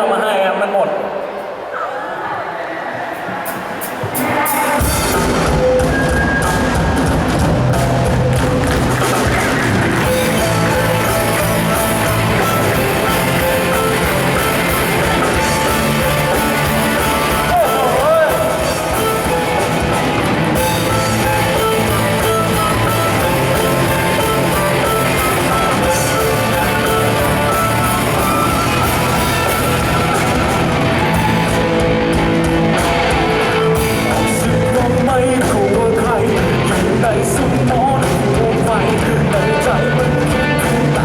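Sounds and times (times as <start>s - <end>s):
band playing loud rock music: 3.4s - 41.0s
electric guitar: 3.5s - 41.0s.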